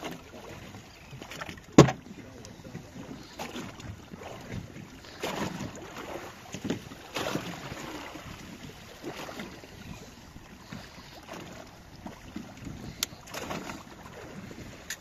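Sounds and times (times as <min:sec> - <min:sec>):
water lapping against boat: 0:00.0 - 0:15.0.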